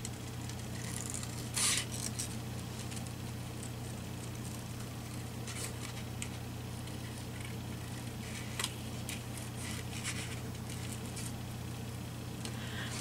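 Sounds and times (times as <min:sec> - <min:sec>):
paper rustling: 0:00.5 - 0:11.4.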